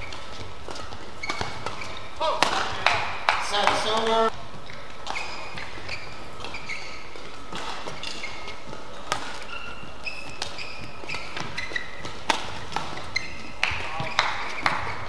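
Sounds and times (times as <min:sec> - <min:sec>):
racket hitting shuttlecock: 0:00.0 - 0:15.0
shoes squeaking on court floor: 0:00.0 - 0:15.0.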